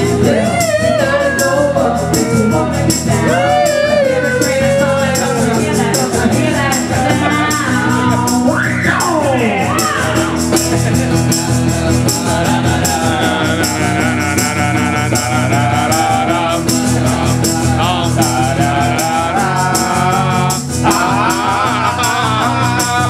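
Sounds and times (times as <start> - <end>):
hand shaker rattling: 0.0 - 23.0
person singing: 0.0 - 23.0
strummed acoustic guitar: 0.0 - 23.0.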